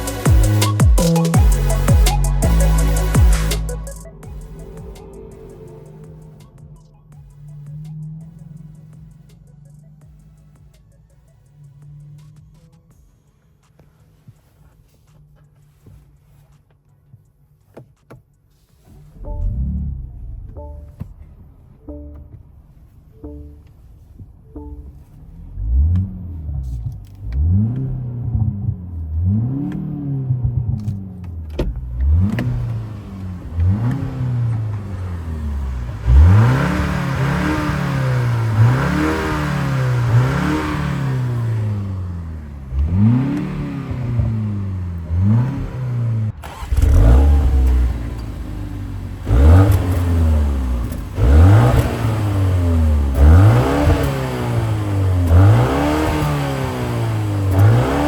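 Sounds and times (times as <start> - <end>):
car engine revving: 0.0 - 16.7, 18.7 - 58.0.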